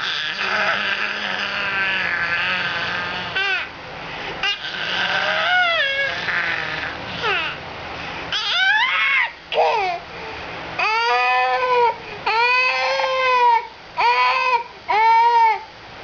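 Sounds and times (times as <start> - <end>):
baby crying: 0.0 - 3.7, 4.4 - 7.6, 8.3 - 10.0, 10.8 - 15.6.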